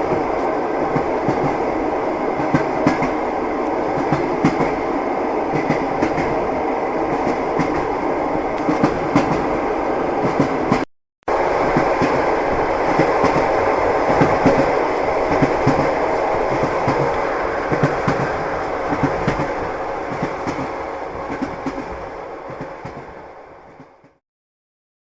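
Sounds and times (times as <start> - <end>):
train rumbling: 0.0 - 24.2.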